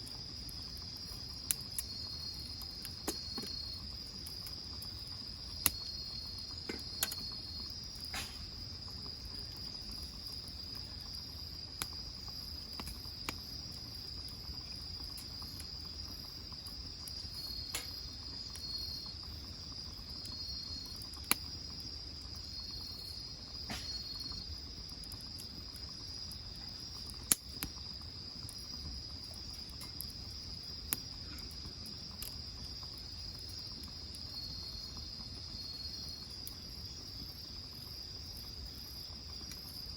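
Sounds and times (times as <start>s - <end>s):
crickets trilling: 0.0s - 39.9s
firewood popping and cracking: 0.0s - 39.9s.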